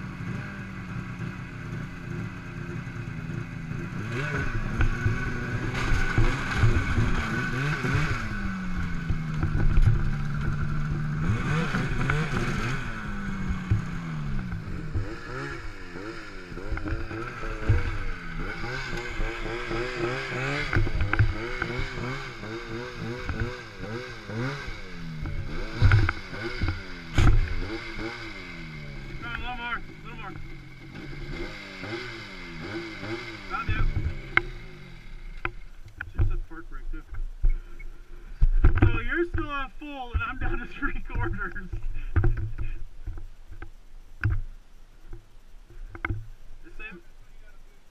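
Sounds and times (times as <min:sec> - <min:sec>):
snowmobile engine revving: 0:00.0 - 0:42.8.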